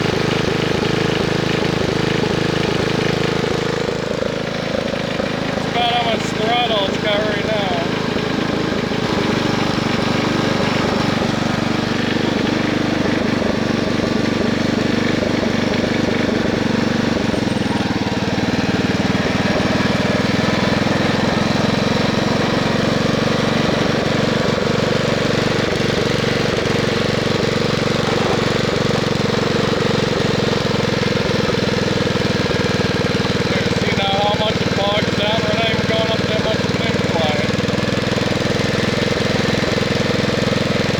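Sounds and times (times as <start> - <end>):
single-cylinder engine running: 0.0 - 40.9.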